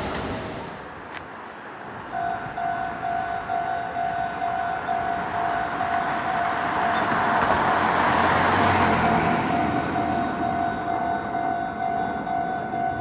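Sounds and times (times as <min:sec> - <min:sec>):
level crossing warning bell: 0:02.1 - 0:13.0
train rushing and rumbling: 0:02.3 - 0:13.0.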